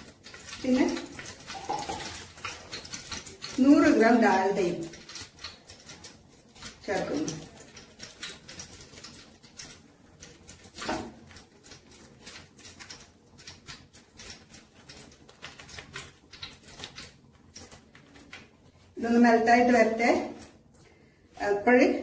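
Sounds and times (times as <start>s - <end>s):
small irregular clicks: 0.0s - 18.8s.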